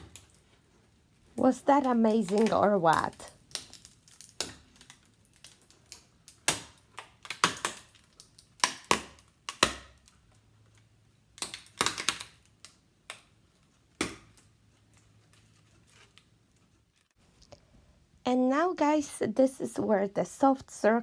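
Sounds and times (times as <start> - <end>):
crisp crackles and snaps: 0.0 - 17.7.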